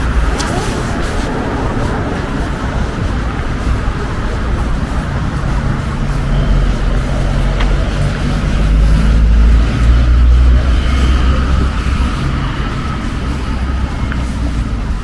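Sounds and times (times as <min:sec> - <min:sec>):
street traffic noise: 0:00.0 - 0:15.0
vehicle engine passing: 0:00.0 - 0:15.0.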